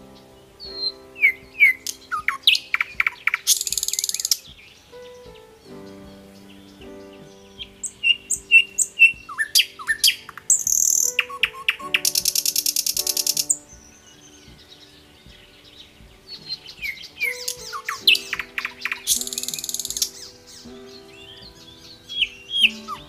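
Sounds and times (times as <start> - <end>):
small birds chirping: 0.0 - 23.0
soft background music: 0.0 - 23.0.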